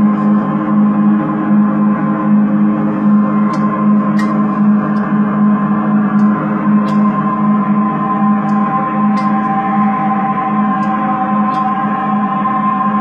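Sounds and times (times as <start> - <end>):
electric bass with delay: 0.0 - 13.0.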